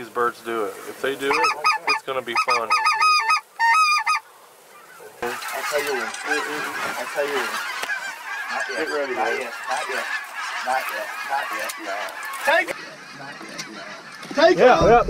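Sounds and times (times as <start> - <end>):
geese honking and yelping: 0.0 - 14.9.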